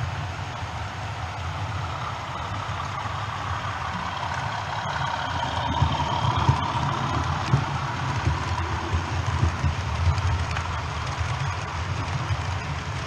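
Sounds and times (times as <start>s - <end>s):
model train motor hum: 0.0s - 13.0s
wheels rumbling on rails: 0.0s - 13.0s.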